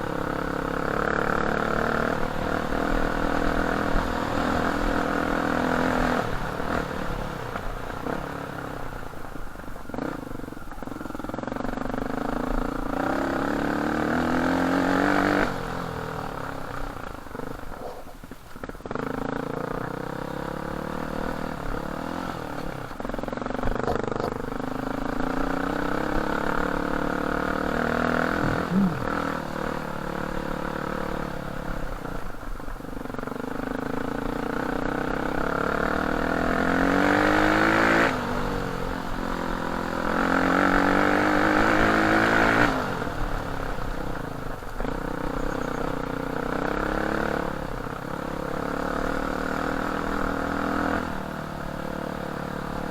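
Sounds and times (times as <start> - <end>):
dirt bike engine revving: 0.0 - 17.8, 18.6 - 52.9.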